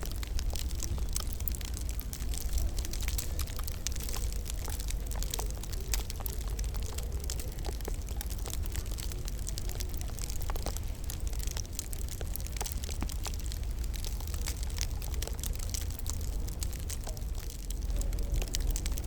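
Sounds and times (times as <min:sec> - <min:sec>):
fire crackles and pops: 0:00.0 - 0:19.0
low fire rumble: 0:00.0 - 0:19.0.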